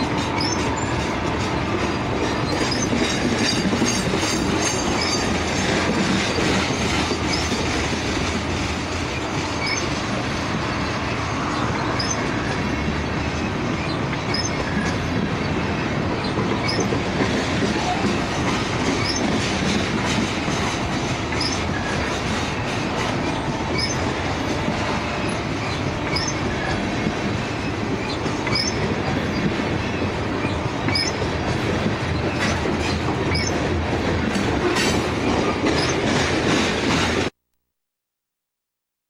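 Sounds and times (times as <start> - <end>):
high wheel squeaks: 0.0 - 36.7
steel wheels rumbling on rails: 0.0 - 37.3.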